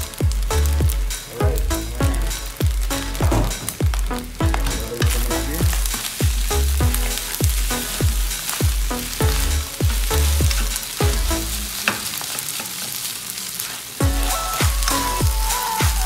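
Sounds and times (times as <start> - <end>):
music with thumping beat: 0.0 - 11.6, 14.0 - 16.0
rice sizzling in a frying pan: 0.0 - 16.0.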